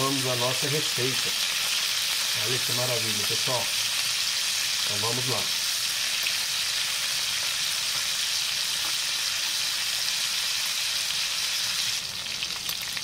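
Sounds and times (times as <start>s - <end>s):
meat sizzling in hot fat: 0.0s - 13.0s.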